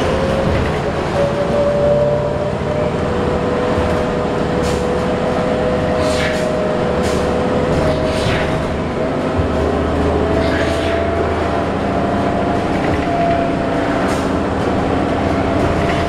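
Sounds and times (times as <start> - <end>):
bus engine and road noise: 0.0 - 16.0
drivetrain whine: 0.0 - 16.0.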